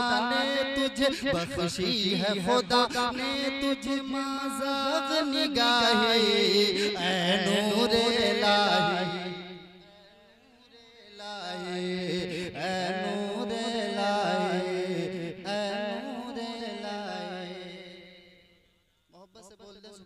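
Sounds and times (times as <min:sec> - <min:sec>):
man singing: 0:00.0 - 0:09.9, 0:10.7 - 0:18.0.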